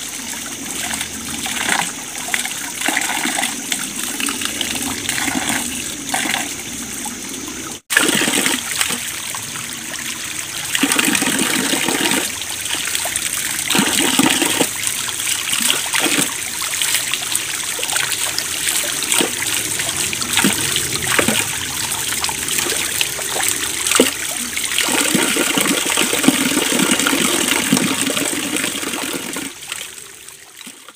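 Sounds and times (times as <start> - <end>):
stream trickling: 0.0 - 30.9.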